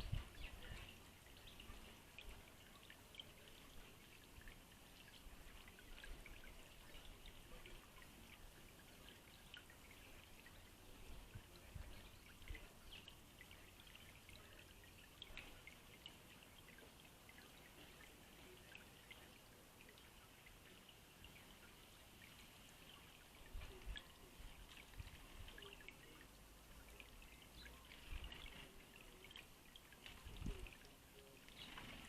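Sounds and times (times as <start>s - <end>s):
small birds chirping and twittering: 0.0s - 32.0s.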